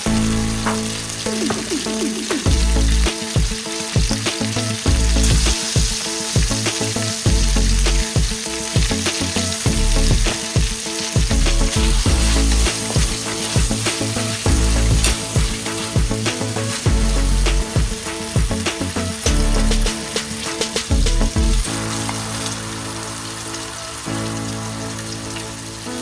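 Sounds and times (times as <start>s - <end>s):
background music with beat: 0.0s - 25.0s
food sizzling in hot oil: 0.0s - 26.0s.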